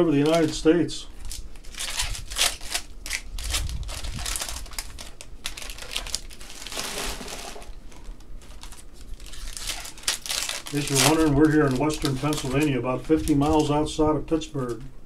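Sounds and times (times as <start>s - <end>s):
packs tearing open: 0.0s - 0.6s, 1.2s - 13.8s
card pack wrappers crinkling: 0.0s - 13.9s.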